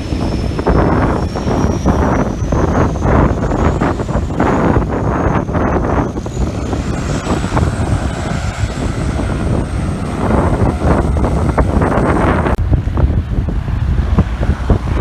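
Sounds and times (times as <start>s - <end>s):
propeller aircraft engine whine: 0.0s - 15.0s
wind buffeting microphone: 0.0s - 15.0s.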